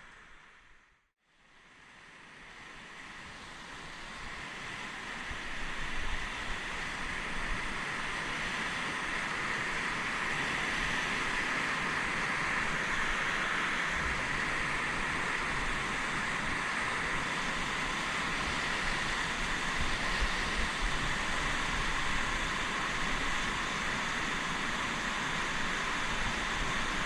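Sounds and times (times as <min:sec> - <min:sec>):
river water rushing: 0:01.8 - 0:27.0.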